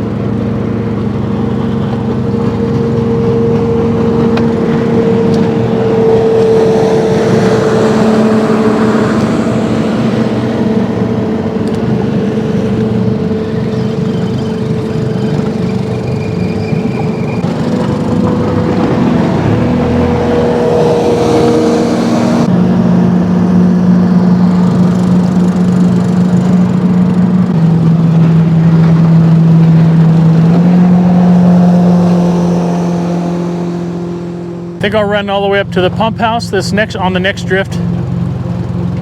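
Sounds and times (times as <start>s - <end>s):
boat motor running: 0.0s - 39.0s.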